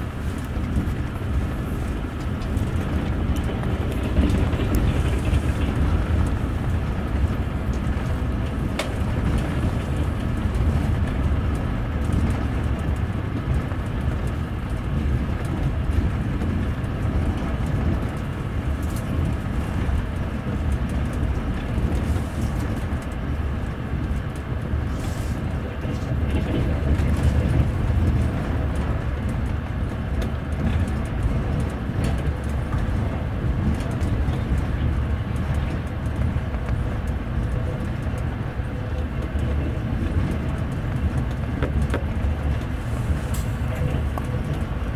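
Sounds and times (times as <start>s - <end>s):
train wheels rolling on rails: 0.0s - 44.9s.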